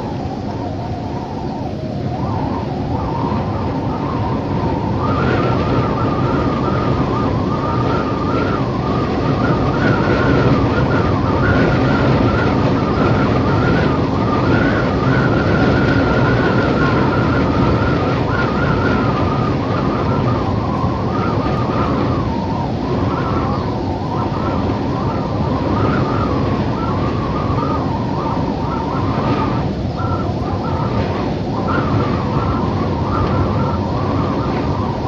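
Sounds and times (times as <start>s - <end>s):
wind howling and whistling: 0.0s - 35.0s.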